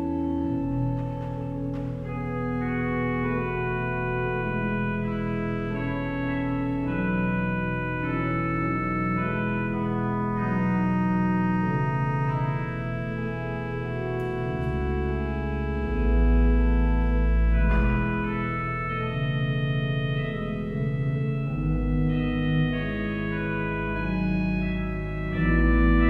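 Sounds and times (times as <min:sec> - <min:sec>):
organ playing sustained chords: 0:00.0 - 0:26.0.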